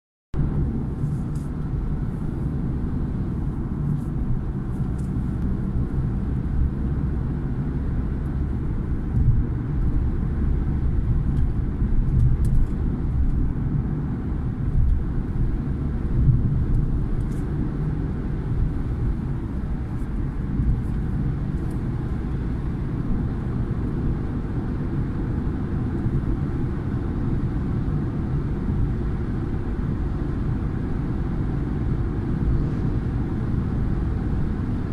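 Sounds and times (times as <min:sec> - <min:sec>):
car rumble inside cabin: 0:00.4 - 0:34.9.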